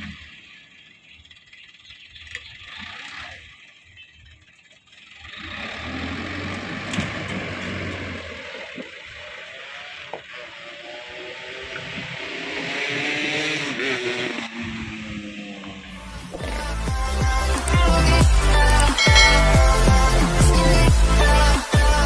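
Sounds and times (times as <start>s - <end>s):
dump truck engine running: 0.0s - 10.6s, 14.8s - 22.0s.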